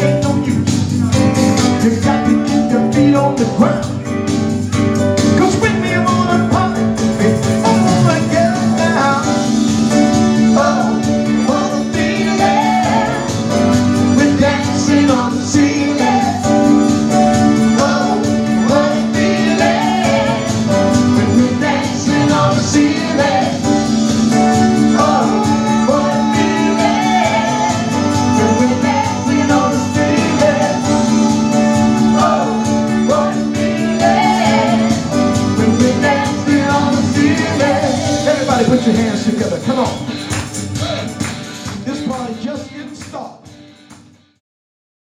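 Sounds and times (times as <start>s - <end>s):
person singing: 0.0s - 4.1s, 5.3s - 40.1s
soul and funk band music: 0.0s - 44.4s.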